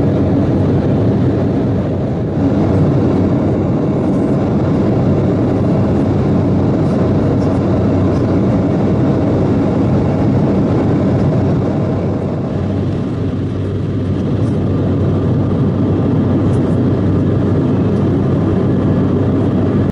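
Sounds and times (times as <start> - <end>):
airliner cabin engine drone: 0.0 - 19.9.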